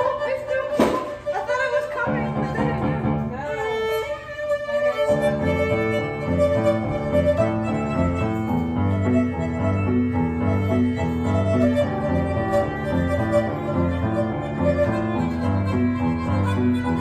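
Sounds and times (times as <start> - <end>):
piano notes: 0.0 - 17.0
violin melody: 0.0 - 17.0.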